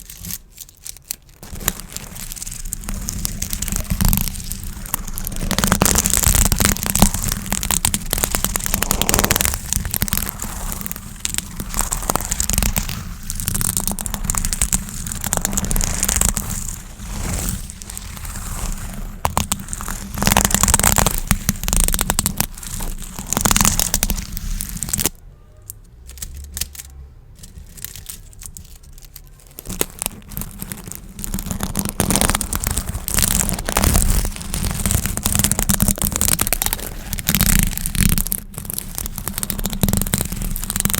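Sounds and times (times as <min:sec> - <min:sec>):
plastic gift bows crinkling: 0:00.0 - 0:40.9.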